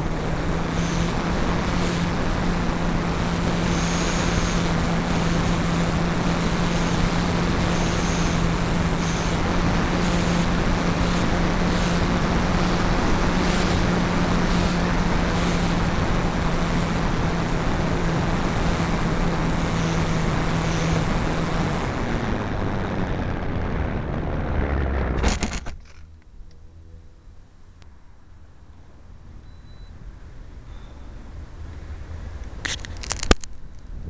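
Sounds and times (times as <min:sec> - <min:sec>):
electric motor and propeller hum: 0:00.0 - 0:27.3.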